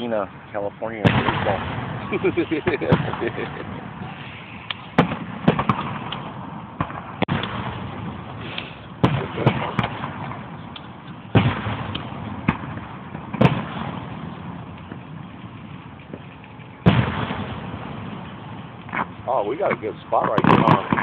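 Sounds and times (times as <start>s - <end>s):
fireworks bursting with echoes: 0.0s - 21.0s.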